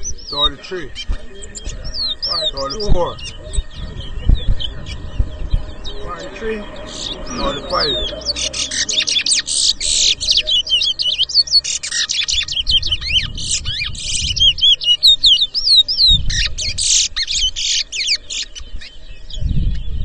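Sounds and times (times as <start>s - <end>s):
finch singing whistled trills: 0.0s - 20.0s.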